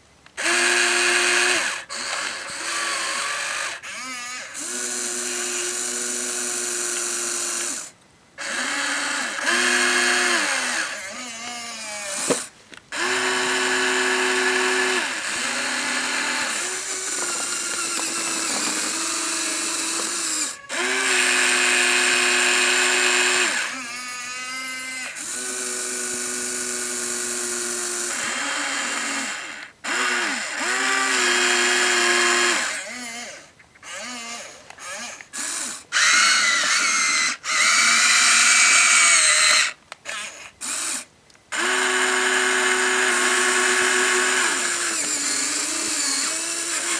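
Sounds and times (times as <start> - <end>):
electric gear motors whining: 0.4 - 46.9.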